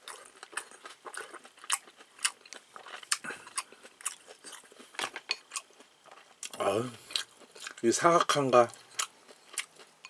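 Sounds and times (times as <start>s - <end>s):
person chewing with wet clicks: 0.0s - 10.0s.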